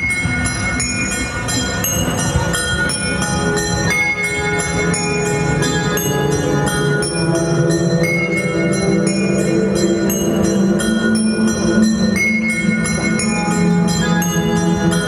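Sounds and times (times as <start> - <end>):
bell-like chiming melody: 0.0 - 15.0.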